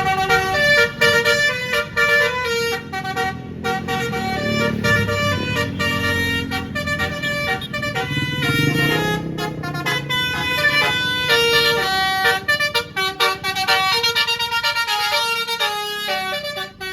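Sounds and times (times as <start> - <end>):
low engine rumble: 0.0 - 16.9
musical bus air horn melody: 0.0 - 16.9.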